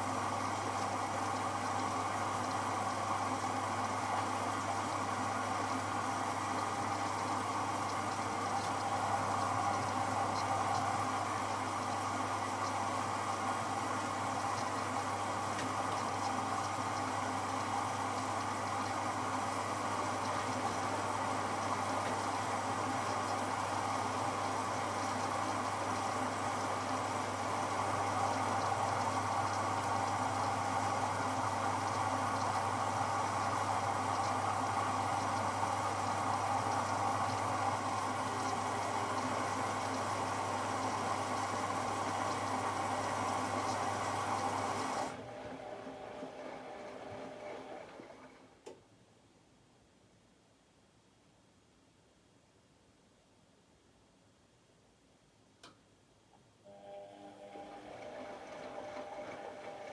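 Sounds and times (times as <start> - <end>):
washing machine running: 0.0 - 48.6, 56.7 - 59.9.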